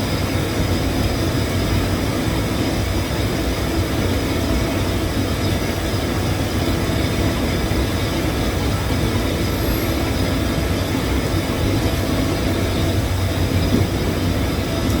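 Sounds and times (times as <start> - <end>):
mechanical rumble: 0.0 - 15.0.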